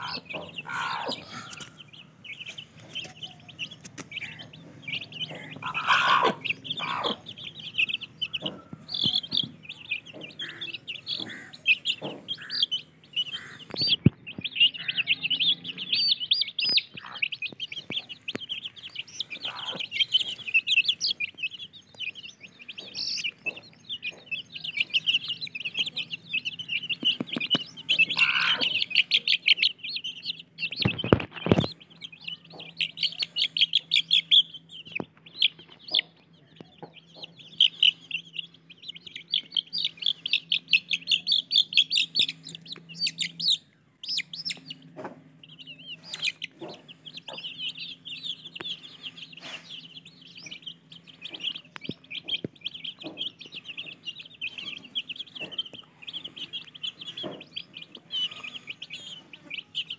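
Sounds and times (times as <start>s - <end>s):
chicks peeping: 0.0s - 59.9s
hen clucking: 0.0s - 59.9s.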